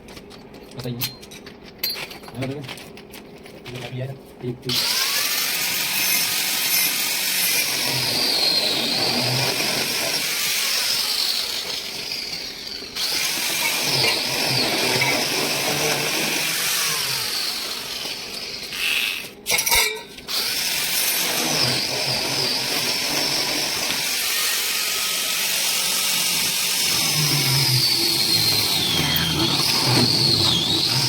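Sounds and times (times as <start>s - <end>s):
power tool whining: 4.7s - 19.5s, 20.3s - 31.0s.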